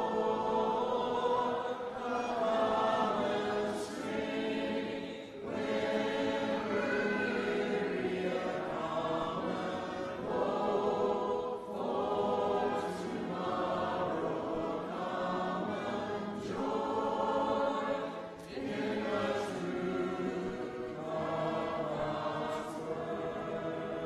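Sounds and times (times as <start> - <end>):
congregation singing a hymn: 0.0 - 24.0.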